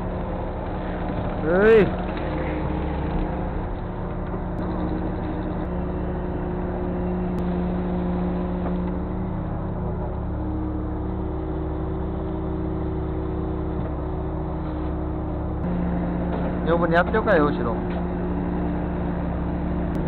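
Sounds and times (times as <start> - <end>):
boat engine and net hauler droning: 0.0 - 20.0.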